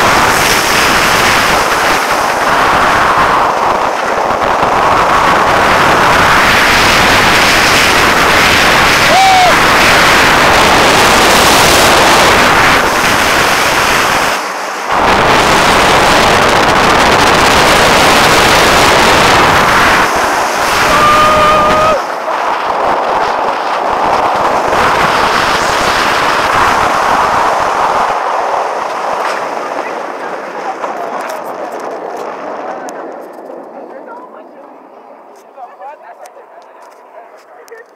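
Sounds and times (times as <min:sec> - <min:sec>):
roller coaster train on steel track: 0:00.0 - 0:37.9
wind rushing on microphone: 0:00.0 - 0:37.9.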